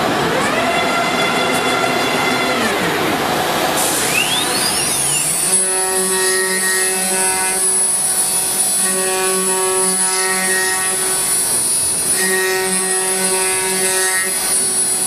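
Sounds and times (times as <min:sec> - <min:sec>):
router spindle whine cutting wood: 0:00.0 - 0:15.0.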